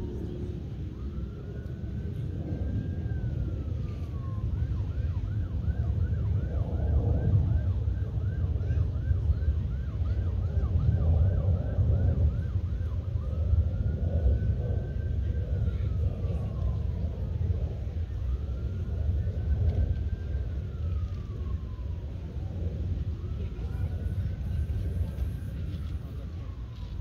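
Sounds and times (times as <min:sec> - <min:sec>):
emergency siren wailing and yelping: 0:00.0 - 0:27.0.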